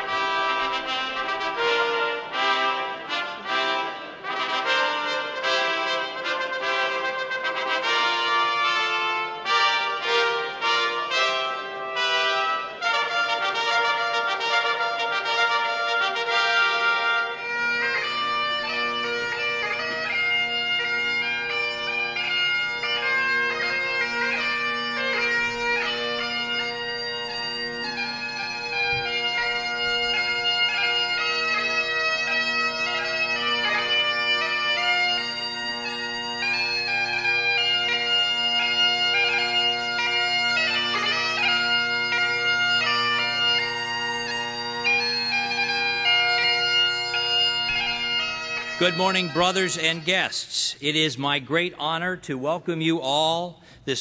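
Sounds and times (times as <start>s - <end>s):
bagpipes playing a tune: 0.0s - 52.1s.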